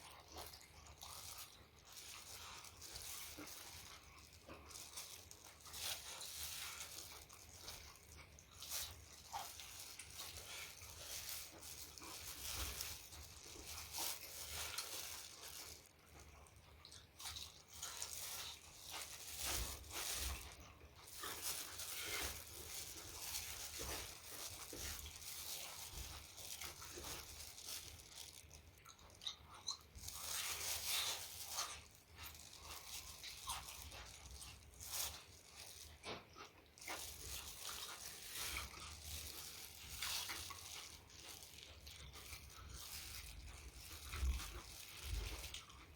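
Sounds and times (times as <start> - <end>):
person chewing and crunching: 0.0 - 45.9.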